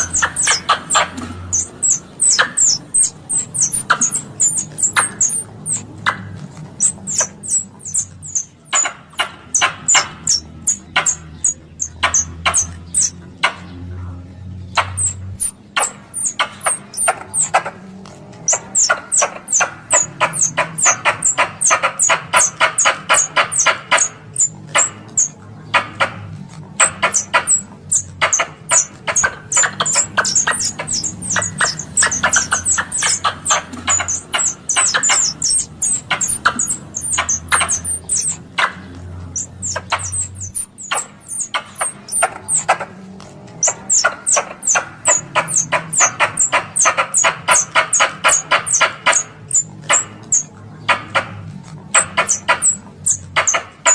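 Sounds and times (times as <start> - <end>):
squirrel chirps: 0.0 - 53.9.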